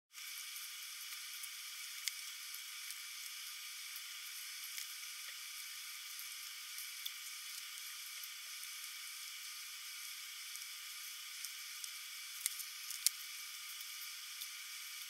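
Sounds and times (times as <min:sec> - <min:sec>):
high static hiss: 0:00.1 - 0:15.0.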